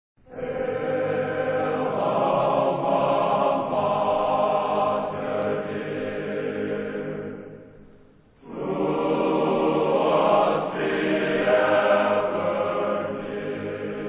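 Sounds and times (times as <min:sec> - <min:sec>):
choir singing: 0:00.3 - 0:07.8, 0:08.4 - 0:14.0.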